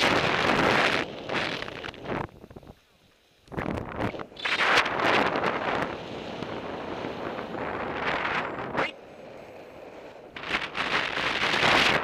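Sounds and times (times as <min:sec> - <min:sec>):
wind buffeting a microphone: 0:00.0 - 0:02.8, 0:03.4 - 0:12.0.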